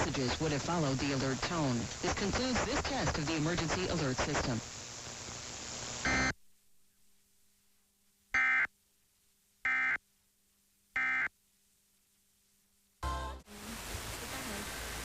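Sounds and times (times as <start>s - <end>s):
faint steady hum: 0.0s - 15.0s
static hiss: 0.0s - 15.0s.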